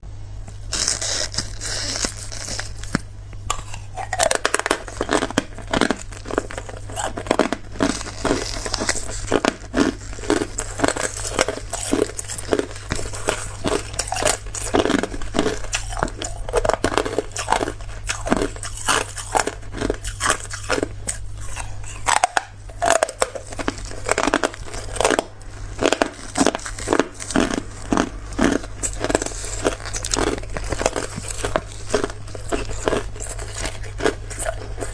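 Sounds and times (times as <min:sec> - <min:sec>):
steady low hum: 0:00.0 - 0:34.9
ice being chewed: 0:00.4 - 0:34.9.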